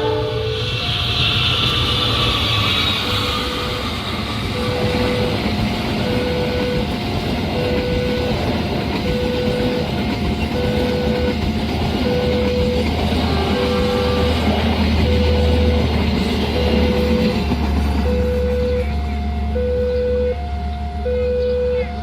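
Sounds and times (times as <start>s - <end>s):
passing train rumble: 0.0s - 22.0s
two-tone crossing alarm: 0.0s - 22.0s.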